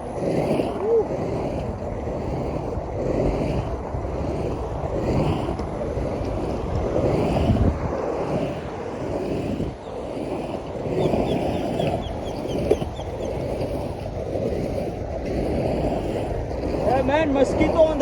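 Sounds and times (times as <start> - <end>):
skateboard wheels rolling on concrete: 0.0 - 18.0
wind on microphone: 0.0 - 18.0.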